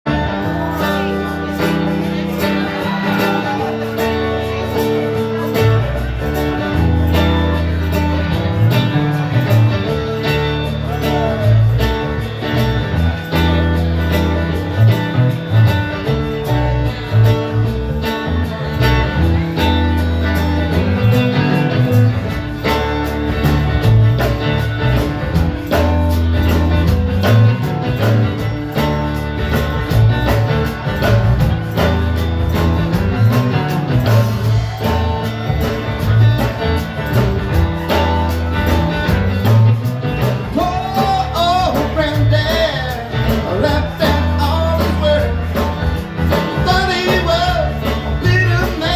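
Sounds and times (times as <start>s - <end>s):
bass line: 0.0s - 48.9s
guitar: 0.0s - 48.9s
drums steady beat: 0.1s - 48.9s.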